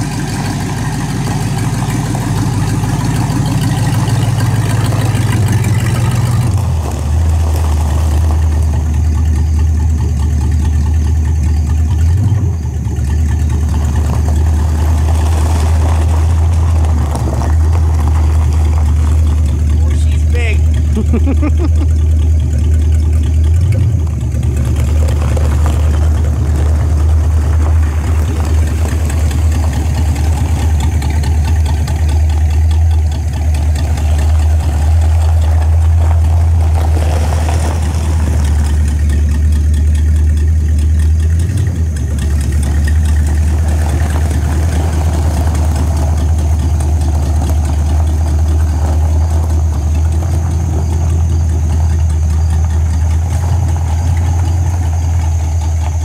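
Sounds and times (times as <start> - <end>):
car engine running low: 0.0 - 56.0.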